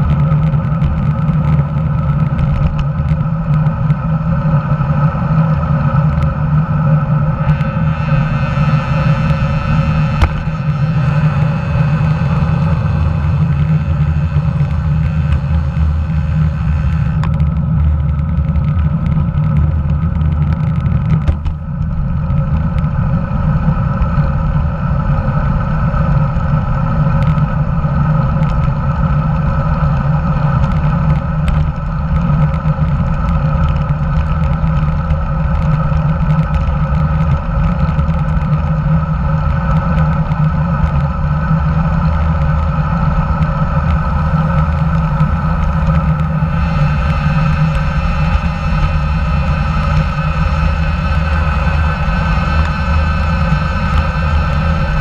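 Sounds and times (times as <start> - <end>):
road vibration: 0.0 - 55.0
wind rumble: 0.0 - 55.0.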